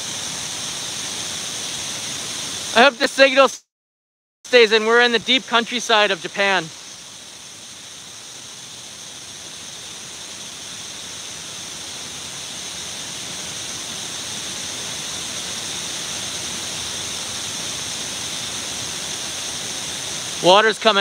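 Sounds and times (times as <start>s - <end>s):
waterfall rushing into pool: 0.0s - 3.5s, 4.5s - 21.0s.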